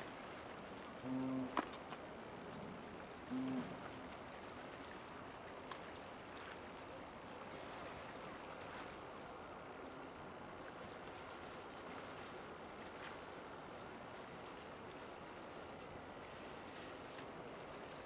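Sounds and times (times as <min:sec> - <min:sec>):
faint harbour background noise: 0:00.0 - 0:18.0.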